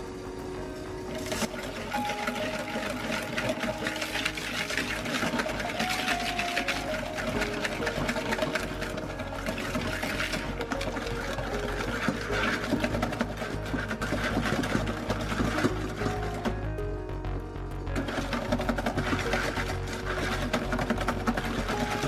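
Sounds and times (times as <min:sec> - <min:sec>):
soft background music: 0:00.0 - 0:22.0
whisk rattling in a bowl: 0:01.2 - 0:16.7, 0:17.9 - 0:22.0.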